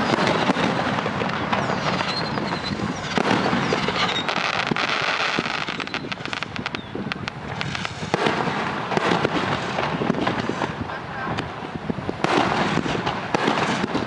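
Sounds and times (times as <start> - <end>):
firework whistles: 0.0 - 10.8, 12.4 - 14.0
fireworks crackling and popping: 0.0 - 14.0.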